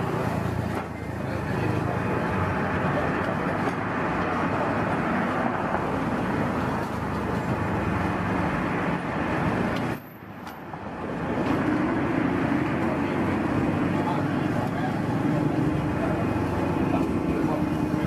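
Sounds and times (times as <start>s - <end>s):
street traffic din: 0.0s - 18.0s.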